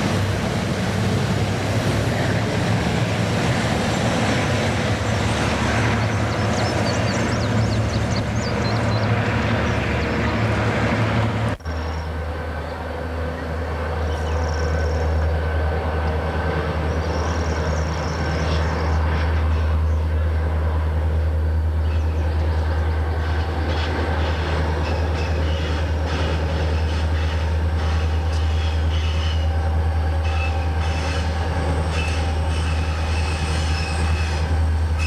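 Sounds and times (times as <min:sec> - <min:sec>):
engine drone with high whine: 0:00.0 - 0:35.0
locomotive engine drone: 0:00.0 - 0:35.0
rail noise: 0:00.0 - 0:35.0.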